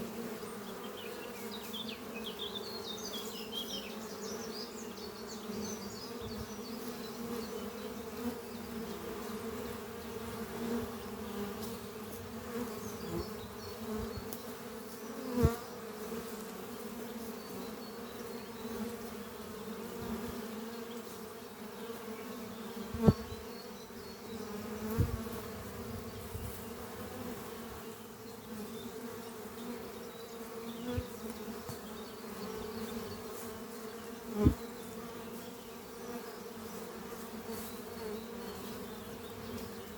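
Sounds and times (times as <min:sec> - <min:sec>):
bees buzzing at hive: 0:00.0 - 0:39.9
single bee buzzing past: 0:00.0 - 0:39.9.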